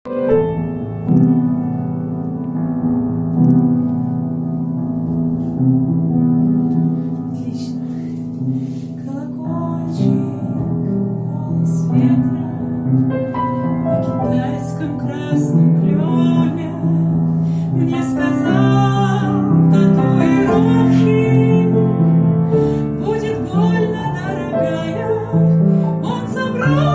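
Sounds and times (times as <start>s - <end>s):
piano and keyboard chords: 0.0s - 26.9s.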